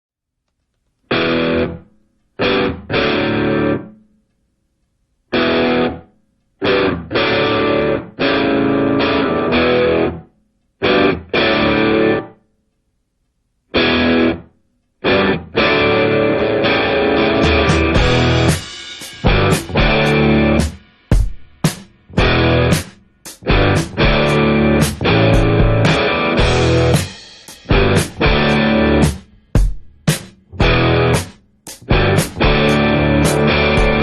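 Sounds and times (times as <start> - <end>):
electric guitar phrases: 1.1 - 4.0, 5.3 - 12.4, 13.7 - 20.8, 22.1 - 29.6, 30.5 - 34.0.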